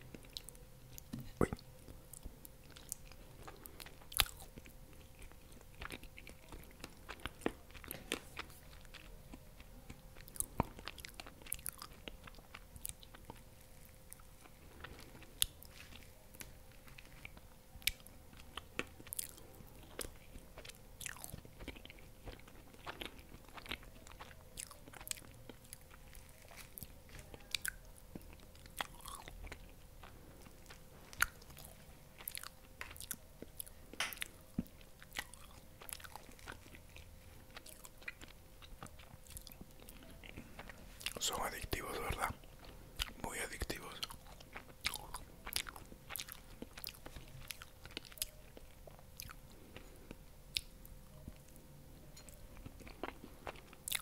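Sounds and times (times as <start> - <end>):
faint steady hum: 0.0 - 54.0
person chewing cake: 0.0 - 54.0.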